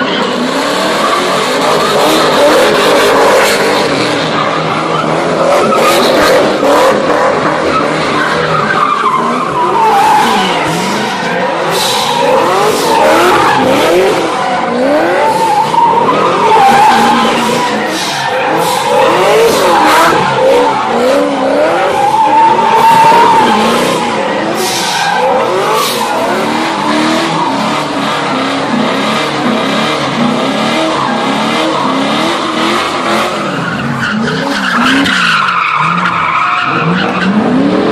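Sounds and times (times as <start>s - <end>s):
car engines revving hard: 0.0s - 37.9s.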